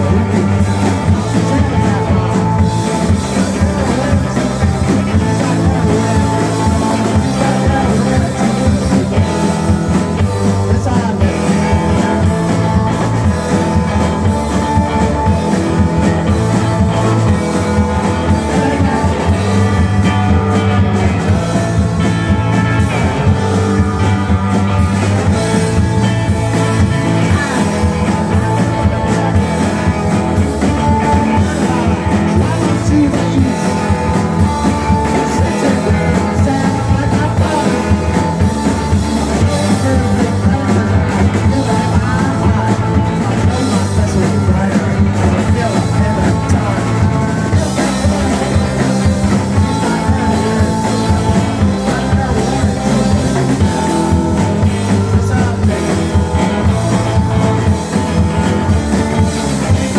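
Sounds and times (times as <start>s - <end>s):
lead vocal singing: 0.0s - 59.9s
live rock band playing: 0.0s - 59.9s.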